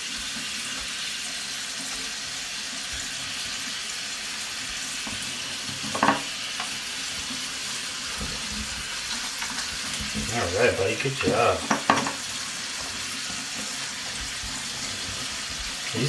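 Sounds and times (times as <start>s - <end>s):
water running from sprayer: 0.0s - 16.0s.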